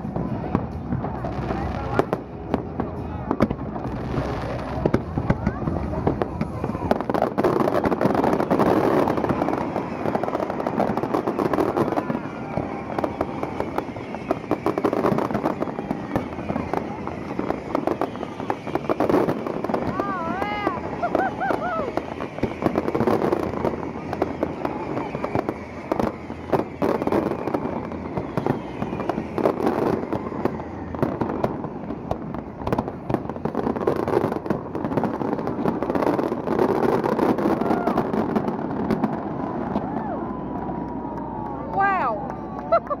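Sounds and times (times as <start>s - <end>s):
fireworks bangs and crackles: 0.0s - 43.0s
steady wash of noise: 0.0s - 43.0s.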